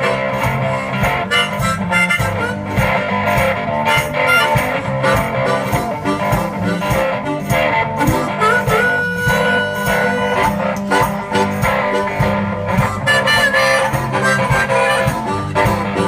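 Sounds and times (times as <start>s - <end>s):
bent high guitar note: 0.0s - 16.0s
blues guitar: 0.0s - 16.0s
steady bass line: 0.0s - 16.0s.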